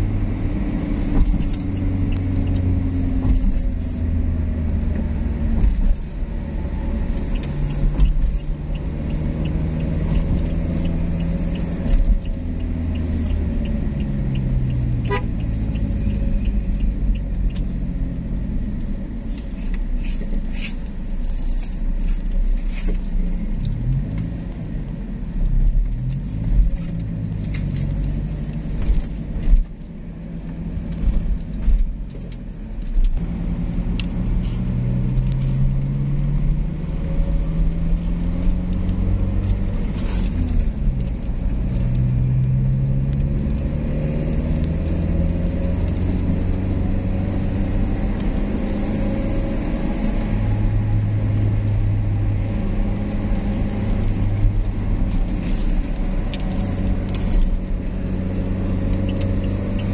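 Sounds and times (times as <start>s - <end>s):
car engine accelerating: 0.0s - 59.9s
road noise inside car: 0.0s - 59.9s.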